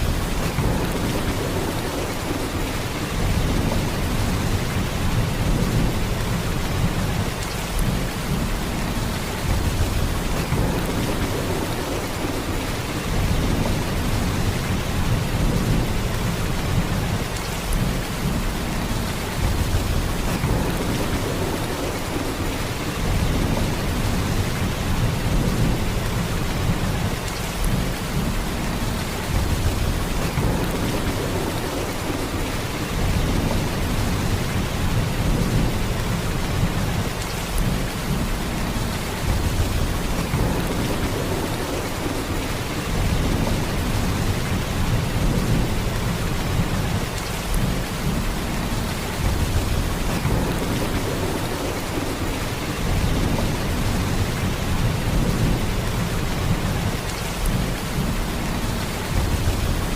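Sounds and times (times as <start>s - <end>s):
heavy rain downpour: 0.0s - 59.9s.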